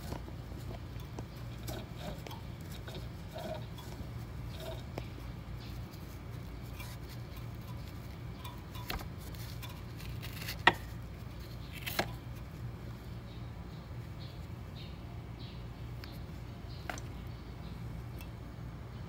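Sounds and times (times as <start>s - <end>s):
air conditioner unit humming: 0.0s - 19.0s
fan motor squeaking: 0.0s - 19.0s.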